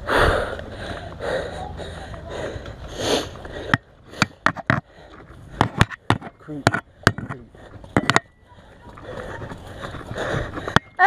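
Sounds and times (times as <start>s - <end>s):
heavy breathing: 0.0s - 6.2s, 6.8s - 11.0s.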